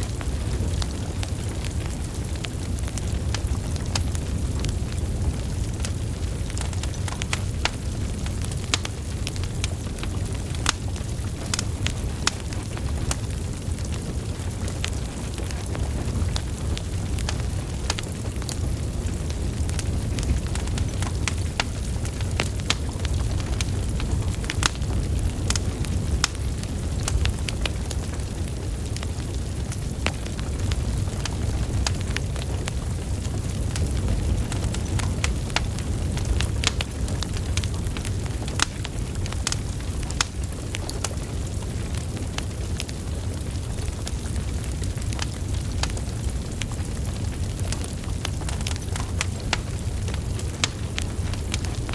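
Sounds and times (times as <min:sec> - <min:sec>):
logs crackling and popping: 0:00.0 - 0:51.9
low rumble of flames: 0:00.0 - 0:51.9.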